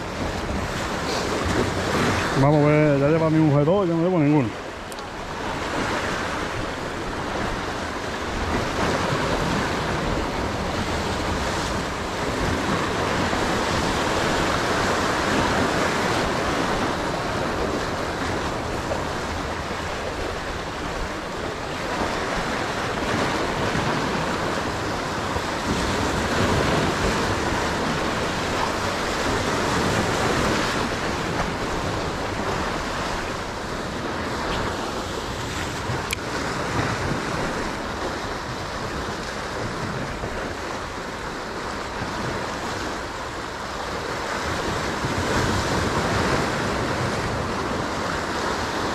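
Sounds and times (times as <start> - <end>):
waves washing over rocks: 0.0 - 48.9
wind on microphone: 0.0 - 48.9.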